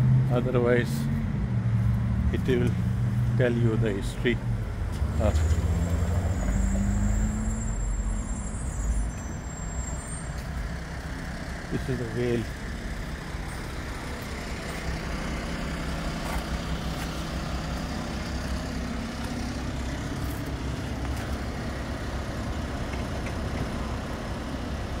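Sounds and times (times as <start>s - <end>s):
outdoor background rumble: 0.0s - 25.0s.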